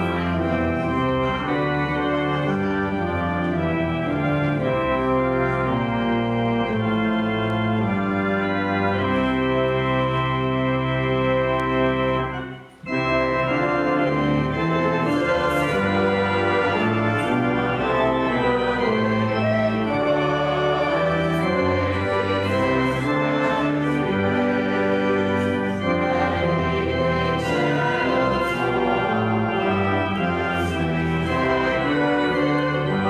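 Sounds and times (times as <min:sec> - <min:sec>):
church organ playing: 0:00.0 - 0:33.0.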